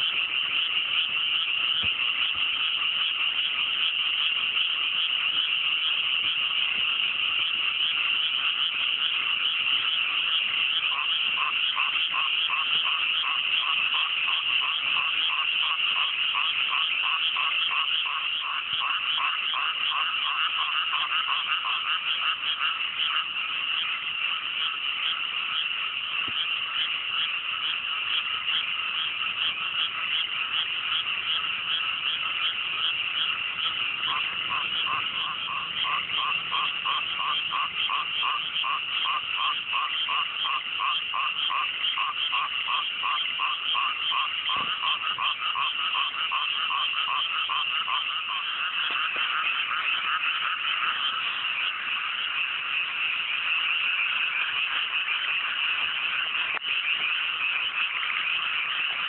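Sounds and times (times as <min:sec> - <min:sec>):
chorus of frogs calling: 0:00.0 - 0:59.0
nearby frog calling rapidly: 0:00.0 - 0:59.0.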